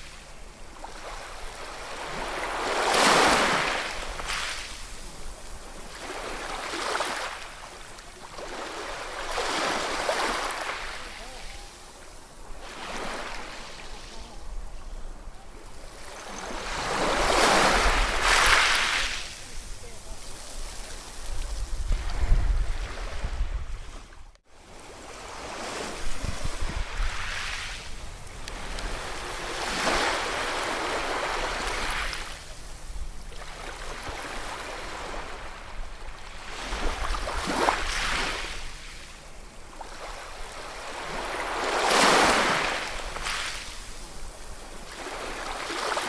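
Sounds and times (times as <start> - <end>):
ocean waves breaking on shore: 0.0 - 46.0.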